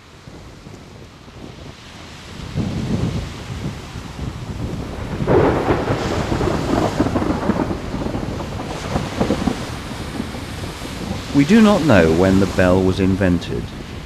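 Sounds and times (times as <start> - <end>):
rain falling: 0.0 - 14.0
thunder rolling: 2.3 - 14.0.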